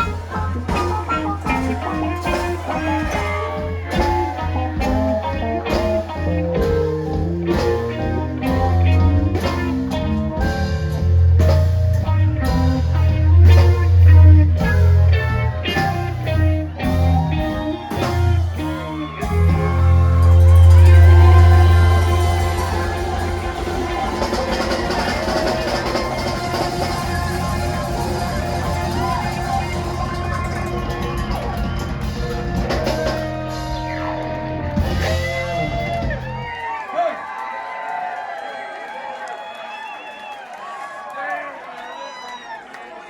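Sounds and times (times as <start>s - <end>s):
heavy bass line: 0.0s - 36.5s
drums keeping a steady beat: 0.0s - 36.6s
electric guitar: 0.0s - 36.6s
live rock band playing: 0.0s - 36.6s.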